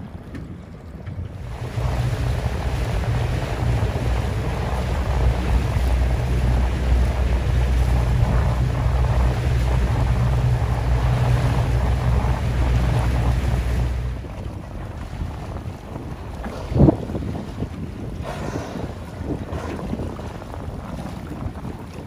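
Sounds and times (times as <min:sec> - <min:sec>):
boat motor humming: 0:00.0 - 0:22.0
wind on microphone: 0:00.0 - 0:22.0.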